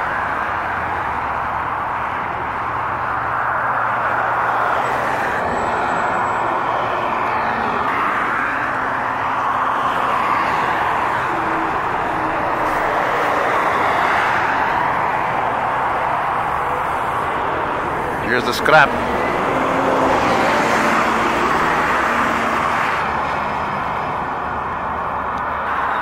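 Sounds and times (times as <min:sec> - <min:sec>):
vehicle road and wind noise: 0:00.0 - 0:26.0.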